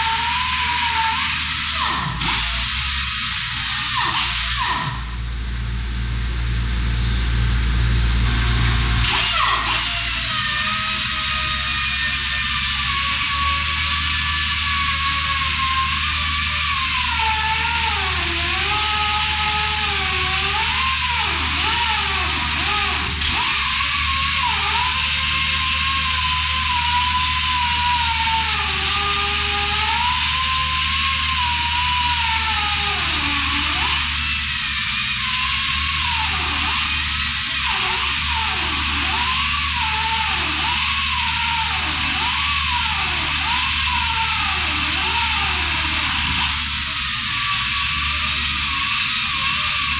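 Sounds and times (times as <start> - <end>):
pneumatic chainsaw cutting stone: 0.0 - 5.2, 8.2 - 49.9.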